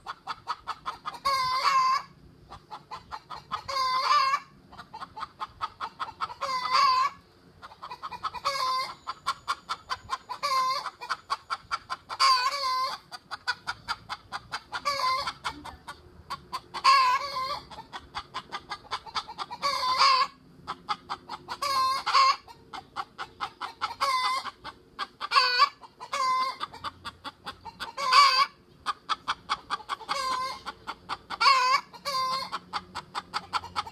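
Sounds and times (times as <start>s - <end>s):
chicken clucking: 0.0s - 33.9s.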